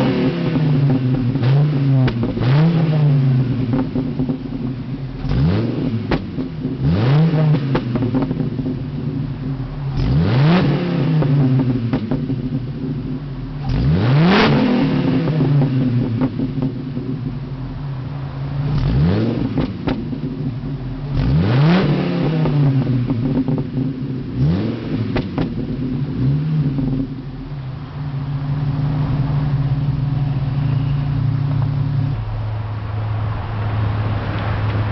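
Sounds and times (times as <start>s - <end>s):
car engine idling: 0.0s - 34.9s
car engine revving: 0.0s - 34.9s.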